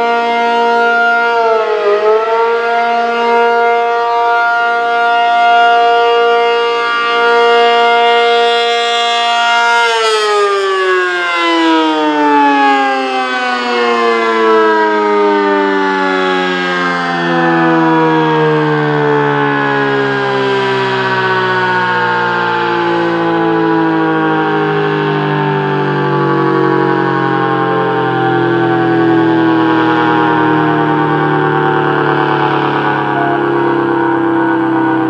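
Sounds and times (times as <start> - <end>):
warning siren winding down: 0.0 - 35.0.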